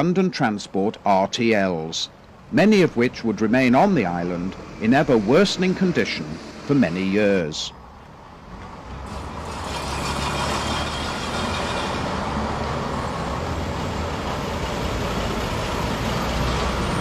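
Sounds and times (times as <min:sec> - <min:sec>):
bus engine running: 0:02.1 - 0:17.0.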